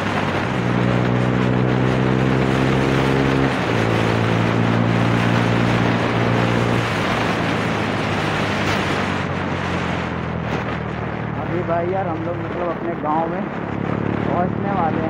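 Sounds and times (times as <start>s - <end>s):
motorcycle engine running: 0.0s - 15.0s
wind rushing: 0.0s - 15.0s.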